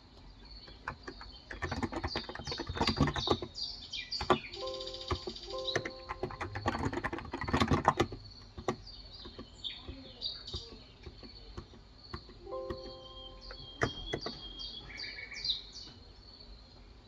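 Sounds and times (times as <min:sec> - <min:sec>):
birds chirping: 0:00.0 - 0:16.3
keyboard typing: 0:00.6 - 0:15.1.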